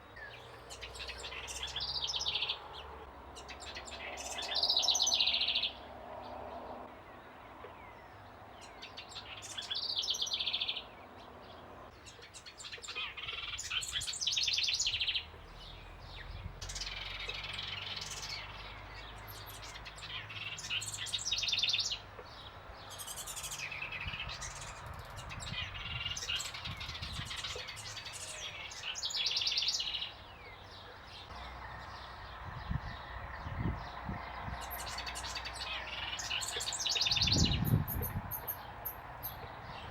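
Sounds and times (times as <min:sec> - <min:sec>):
birds trilling chatter: 0:00.0 - 0:06.9, 0:07.6 - 0:39.9.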